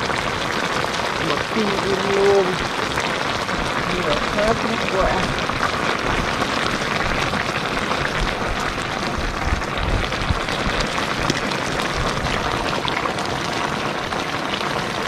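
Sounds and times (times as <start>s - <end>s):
broth boiling and spattering: 0.0s - 15.0s.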